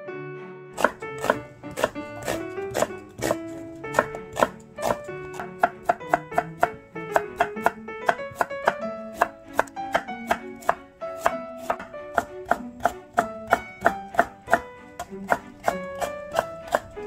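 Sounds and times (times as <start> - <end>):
plucked-string background music: 0.0 - 17.0
knife strikes on wooden board: 0.8 - 17.0.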